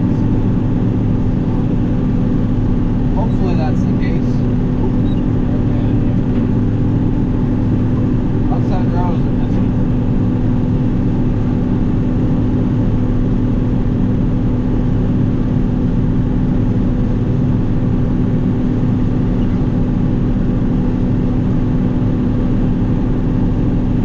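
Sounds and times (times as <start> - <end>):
combine harvester engine droning: 0.0 - 24.0.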